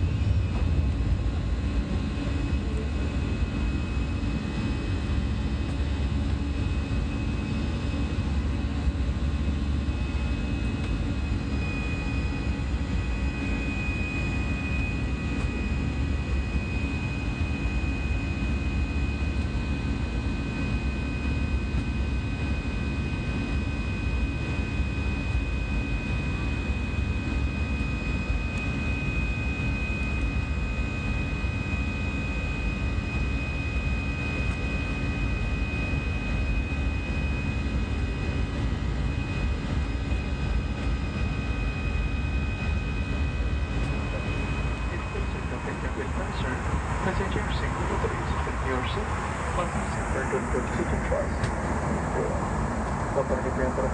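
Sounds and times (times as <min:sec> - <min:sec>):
high engine whine: 0:00.0 - 0:53.9
jet engines rumbling in cabin: 0:00.0 - 0:53.9.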